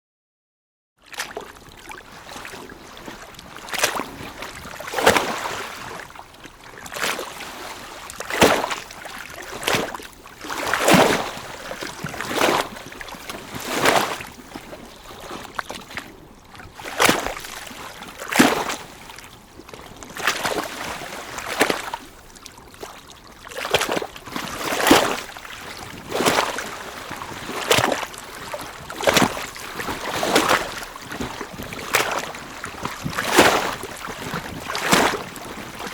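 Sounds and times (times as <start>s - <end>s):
lake waves lapping on shore: 1.0s - 35.9s.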